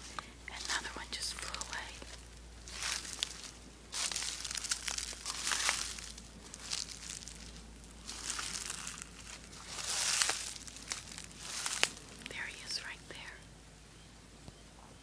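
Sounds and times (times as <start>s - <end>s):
dry rustling and crinkling: 0.0s - 13.4s.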